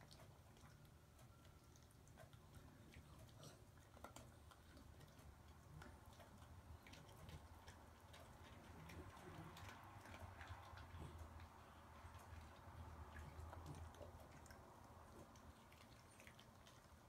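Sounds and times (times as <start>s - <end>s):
dog chewing hard biscuits: 0.0s - 17.0s
low room hum: 0.0s - 17.0s.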